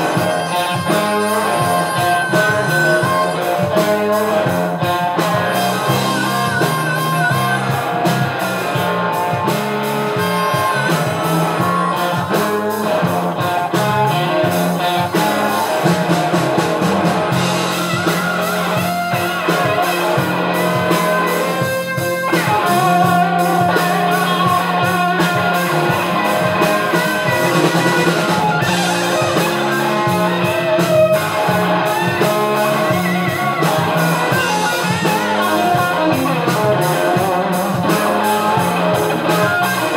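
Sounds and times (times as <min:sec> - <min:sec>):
drums: 0:00.0 - 0:39.9
electric guitars: 0:00.0 - 0:39.9
harmonica wailing: 0:00.0 - 0:39.9.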